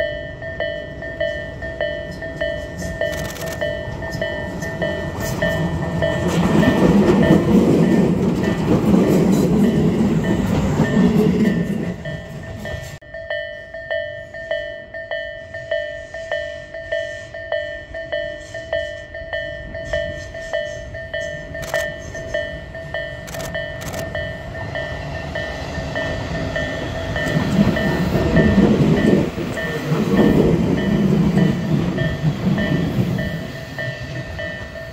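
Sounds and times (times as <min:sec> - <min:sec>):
level-crossing alarm clanging: 0:00.0 - 0:34.9
train rumbling past: 0:00.0 - 0:34.9.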